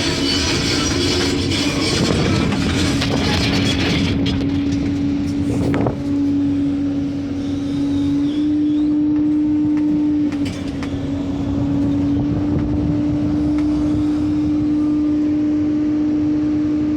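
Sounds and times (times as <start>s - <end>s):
rattling and clanking: 0.0s - 15.2s
rising squeal: 0.0s - 16.4s
excavator engine humming: 0.0s - 16.9s.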